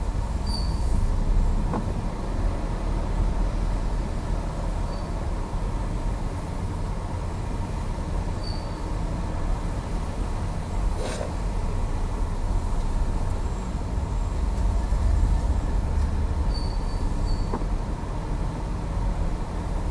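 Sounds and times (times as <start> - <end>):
car engine rumble: 0.0 - 19.9.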